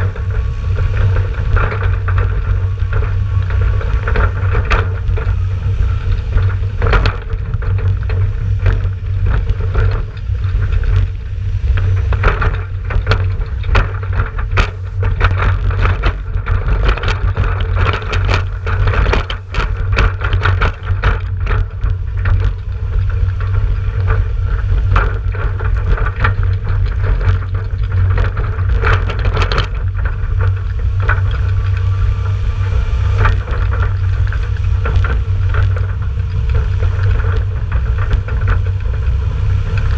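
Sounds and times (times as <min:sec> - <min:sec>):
tractor diesel engine running: 0:00.0 - 0:39.9
trailer rattling and knocking: 0:00.0 - 0:39.9
wind and road rumble: 0:00.0 - 0:39.9.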